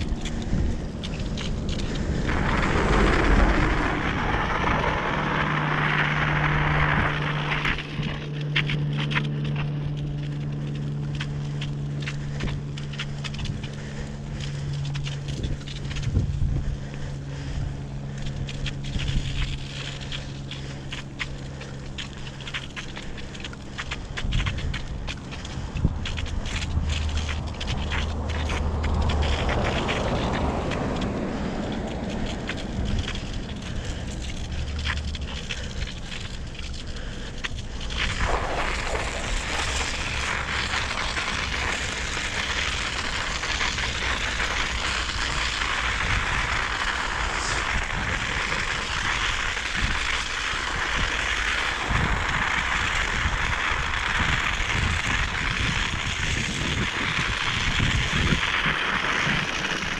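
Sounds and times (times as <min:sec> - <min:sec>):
wind buffeting microphone: 0:00.0 - 0:08.9, 0:09.5 - 0:21.1, 0:23.6 - 0:59.9
dense crackling hiss: 0:00.0 - 0:59.9.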